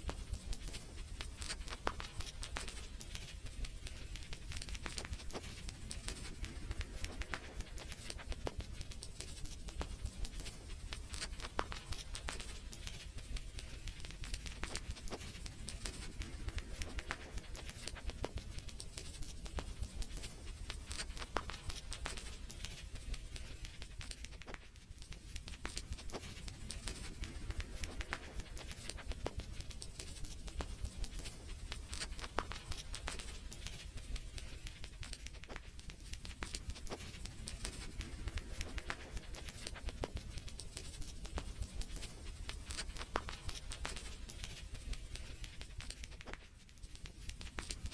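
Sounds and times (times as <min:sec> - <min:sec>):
sharp pops and snaps: 0:00.0 - 0:47.9
wood fire crackling: 0:00.0 - 0:47.9.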